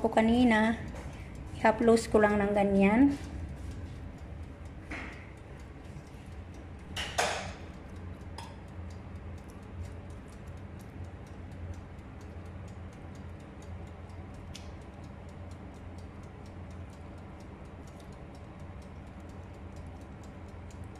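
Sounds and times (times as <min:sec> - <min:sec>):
faint ticking and crackling: 0:00.0 - 0:20.9
low steady hum: 0:00.0 - 0:20.9.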